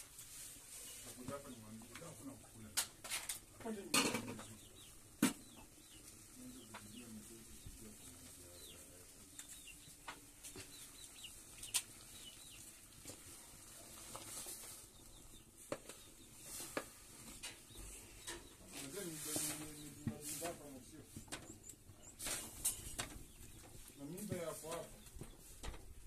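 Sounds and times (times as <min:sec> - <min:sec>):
chickens chirping and clucking: 0:00.3 - 0:03.0, 0:03.6 - 0:26.0.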